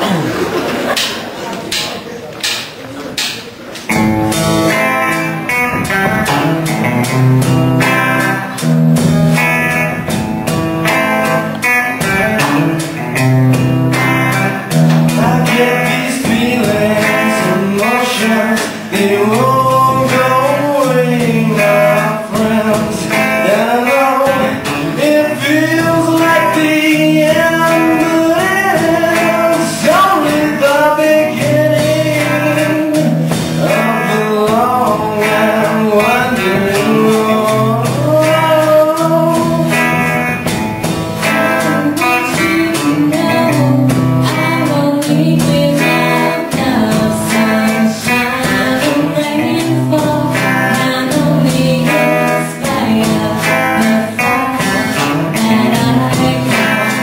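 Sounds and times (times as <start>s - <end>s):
strummed guitar: 0.0s - 57.0s
voices singing: 0.0s - 57.0s.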